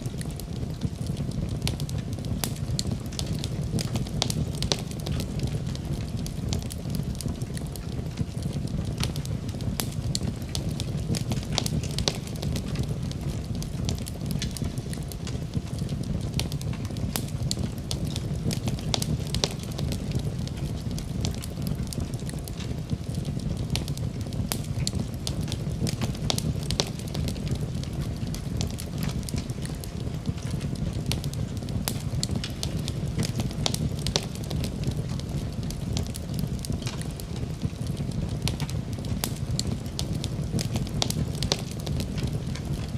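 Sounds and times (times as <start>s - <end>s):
fire flames rumbling: 0.0s - 42.9s
fire popping and crackling: 0.0s - 42.9s.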